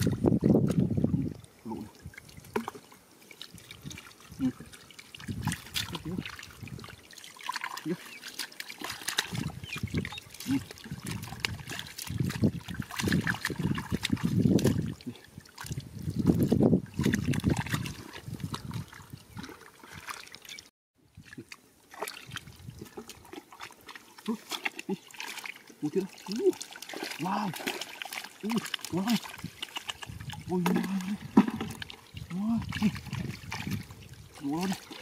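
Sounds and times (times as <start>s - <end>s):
hands splashing in muddy water: 0.0s - 20.6s, 21.2s - 35.0s
water trickling: 0.0s - 35.0s.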